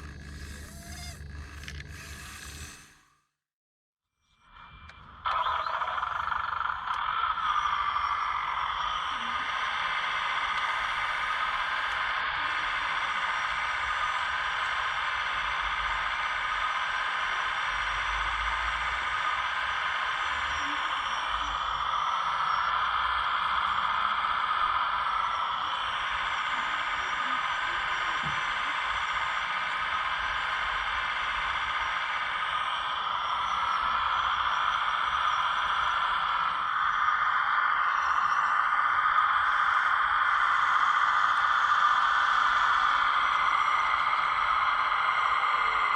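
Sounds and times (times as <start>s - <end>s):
small motors whining: 0.0s - 3.3s, 4.5s - 45.9s.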